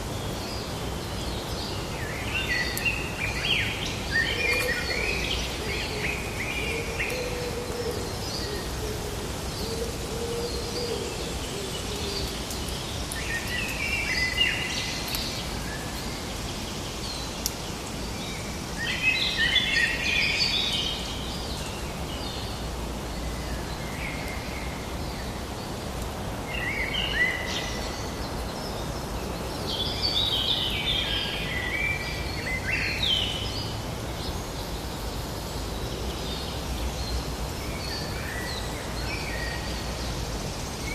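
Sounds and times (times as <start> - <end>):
songbirds singing: 0.0 - 40.9
steady background hiss: 0.0 - 40.9.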